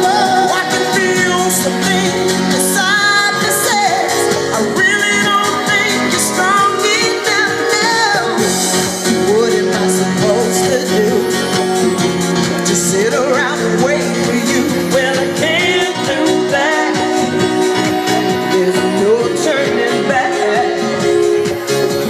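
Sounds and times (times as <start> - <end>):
song with singing and guitar: 0.0 - 22.0.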